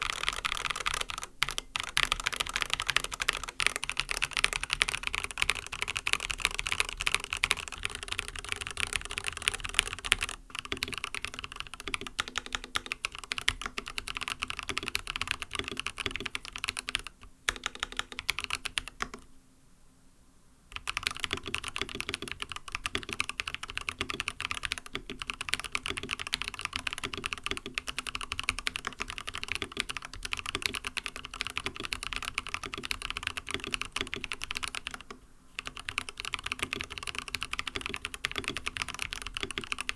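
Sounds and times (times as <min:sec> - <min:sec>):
fast keyboard typing: 0:00.0 - 0:19.2, 0:20.7 - 0:39.9.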